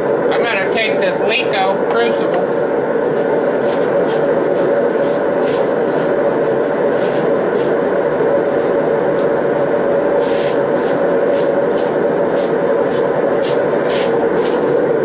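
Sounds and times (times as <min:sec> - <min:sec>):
torch flame rushing: 0:02.6 - 0:15.0.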